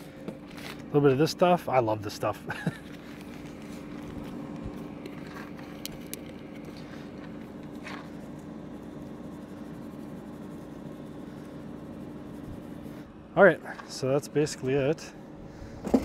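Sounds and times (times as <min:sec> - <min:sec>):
air fryer fan humming: 0:00.0 - 0:16.0.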